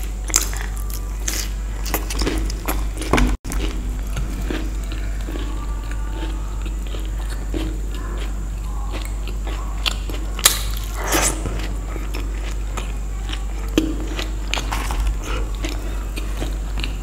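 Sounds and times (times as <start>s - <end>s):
chewing with crisp crunches: 0.0s - 17.0s
steady low hum: 0.0s - 17.0s.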